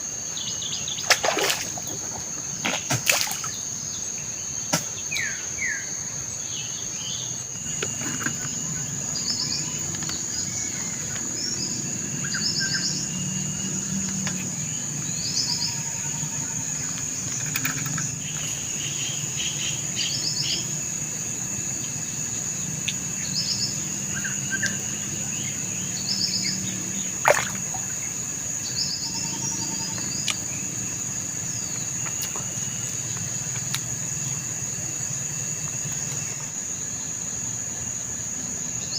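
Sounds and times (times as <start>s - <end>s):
high-pitched insect drone: 5.2s - 38.9s
low steady river rush: 6.1s - 38.9s.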